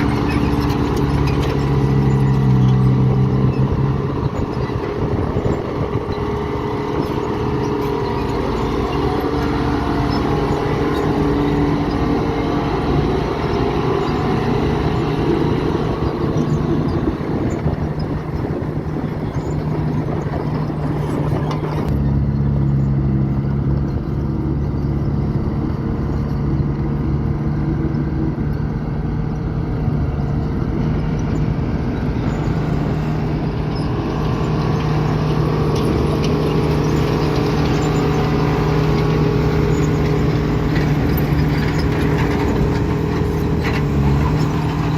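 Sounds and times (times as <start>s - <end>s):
heavy diesel machinery engine drone: 0.0s - 44.9s.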